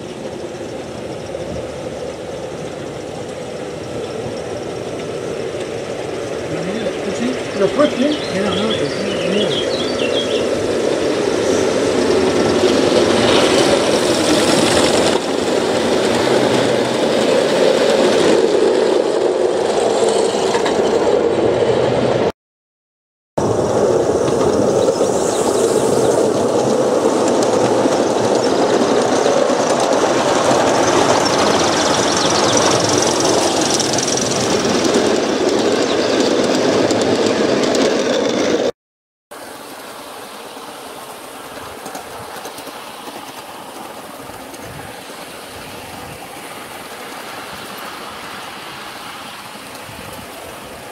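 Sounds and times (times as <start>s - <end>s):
model train wheels rumbling on rails: 0.0s - 22.3s, 23.4s - 38.7s, 39.4s - 50.9s.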